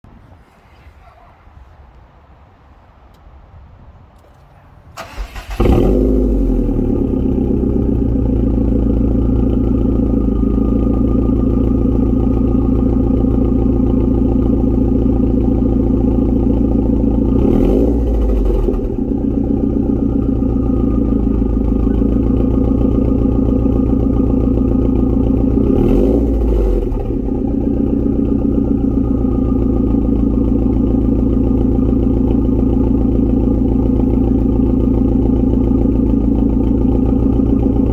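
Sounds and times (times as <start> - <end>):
car engine starting and idling: 5.0 - 37.9
engine revving from throttle blips: 5.0 - 37.9.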